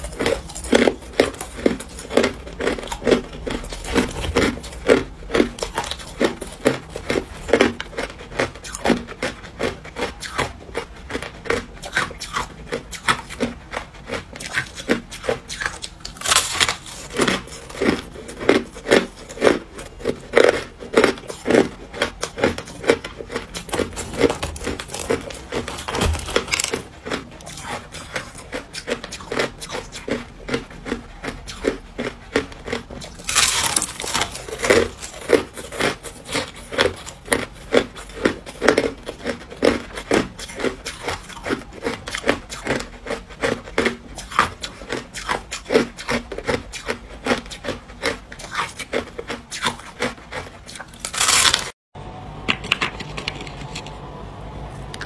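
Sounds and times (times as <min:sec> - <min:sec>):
chewing crushed ice: 0:00.0 - 0:51.8, 0:52.6 - 0:54.1.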